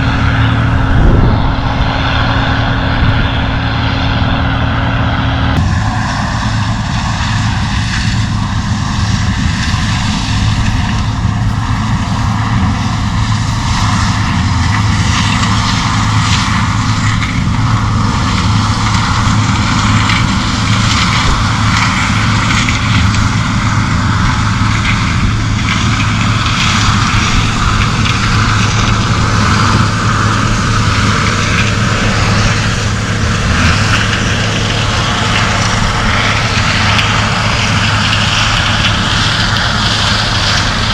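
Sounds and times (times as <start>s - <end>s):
combine engine drone: 0.0s - 40.9s
machinery rushing noise: 0.0s - 40.9s.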